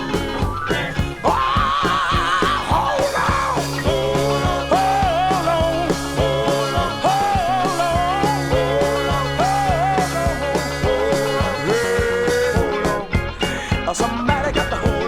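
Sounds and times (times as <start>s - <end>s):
bass line: 0.0s - 15.0s
gospel quartet singing: 0.0s - 15.0s
steady drum beat: 0.0s - 15.0s.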